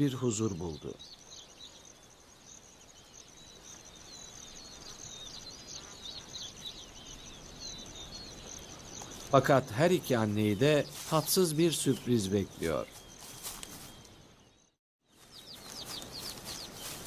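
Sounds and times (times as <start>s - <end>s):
high insect drone: 0.0s - 14.4s
small birds chirping: 0.0s - 17.0s.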